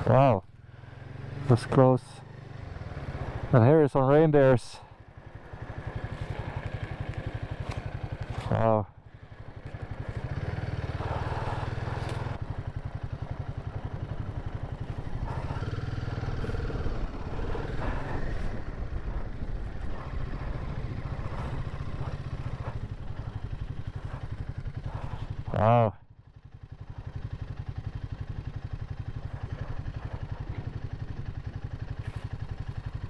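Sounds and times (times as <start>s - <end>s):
wind and road noise: 0.0s - 25.7s, 26.3s - 33.0s
motorcycle engine running: 0.0s - 33.0s.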